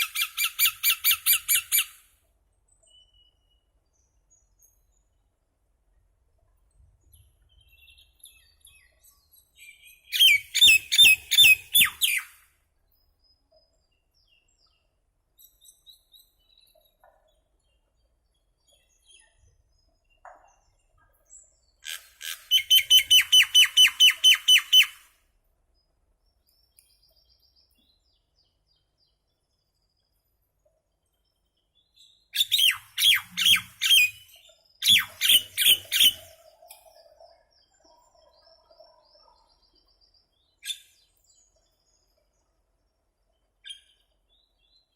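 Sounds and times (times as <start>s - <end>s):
bird chirping: 0.0s - 2.0s, 2.7s - 5.5s, 7.0s - 25.1s, 25.7s - 44.9s.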